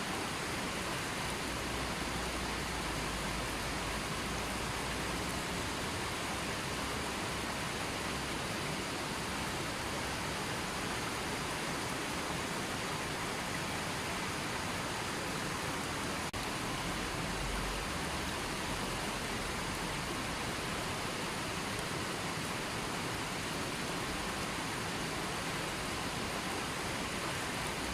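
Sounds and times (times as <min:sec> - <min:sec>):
river water rushing: 0:00.0 - 0:27.9.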